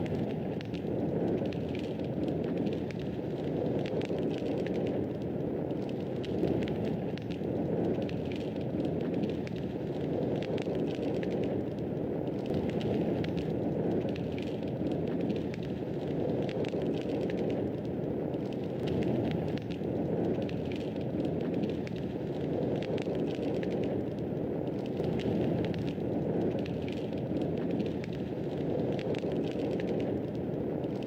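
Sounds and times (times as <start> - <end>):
fireplace fire crackling: 0.0 - 31.0.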